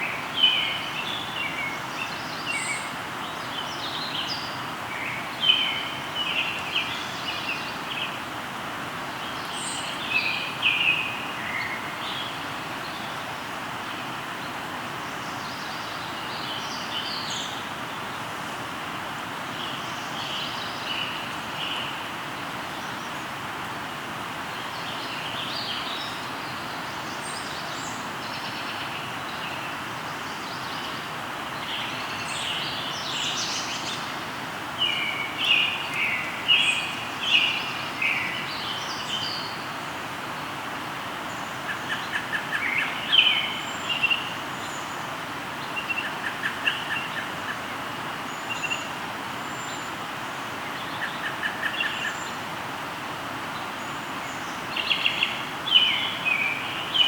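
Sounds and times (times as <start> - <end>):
birds singing: 0.0 - 8.2, 9.2 - 18.7, 24.4 - 52.6, 53.4 - 57.0
river flowing: 0.0 - 57.0.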